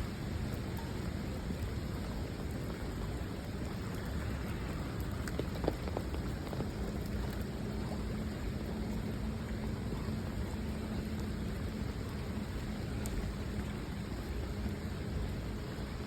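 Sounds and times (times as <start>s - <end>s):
constant low rumble: 0.0s - 16.0s
steady rain falling: 0.0s - 16.0s.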